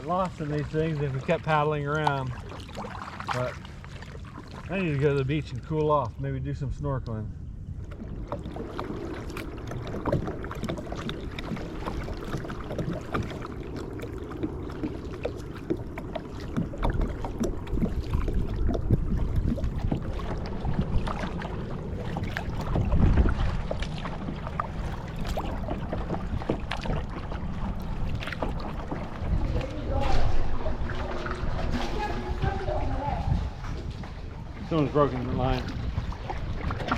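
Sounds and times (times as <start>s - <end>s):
paddle splashing in water: 0.0s - 6.2s, 7.7s - 36.9s
wind rumble on microphone: 4.2s - 36.9s.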